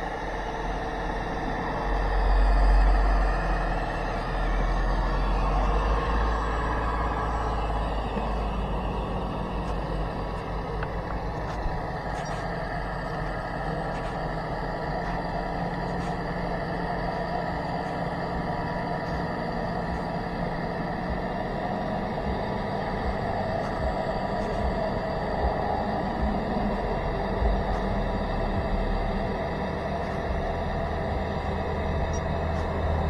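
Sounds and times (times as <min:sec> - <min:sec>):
heavy low rumble: 0:00.0 - 0:33.0.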